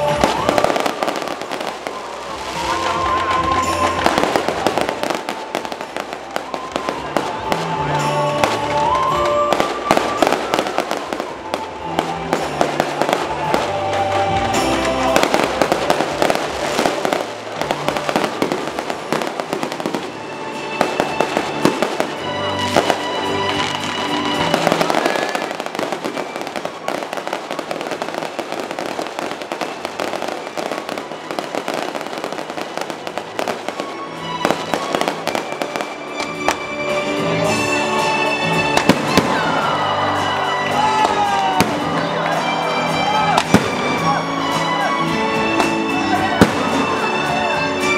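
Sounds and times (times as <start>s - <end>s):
fireworks bursting and crackling: 0.0s - 47.9s
music playing: 0.0s - 47.9s.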